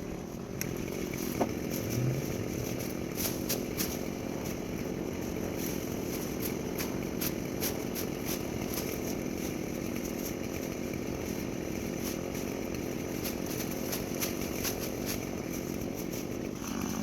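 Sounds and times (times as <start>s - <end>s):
chainsaw cutting brush: 0.0s - 17.0s.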